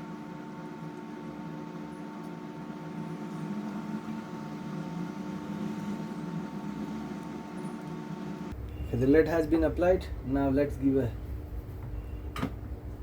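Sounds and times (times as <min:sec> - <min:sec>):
steady mechanical hum: 0:00.0 - 0:13.0
faint high whine: 0:01.7 - 0:12.5.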